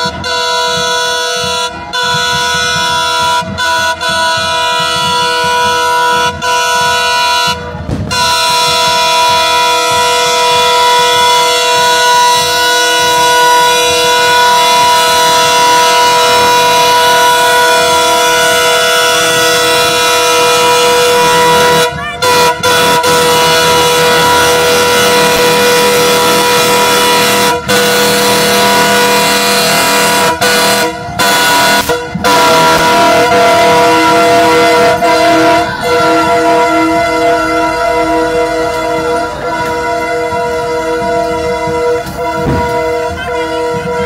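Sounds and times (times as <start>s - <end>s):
train air horn blowing: 0.0s - 44.0s.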